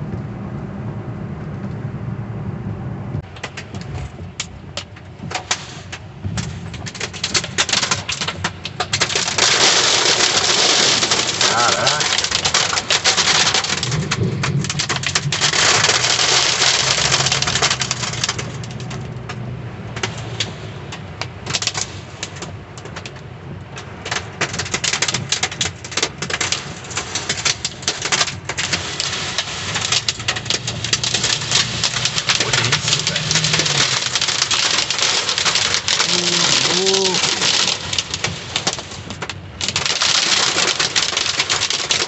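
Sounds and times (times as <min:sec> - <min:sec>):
heavy rain beating on vehicle: 0:03.0 - 0:42.0.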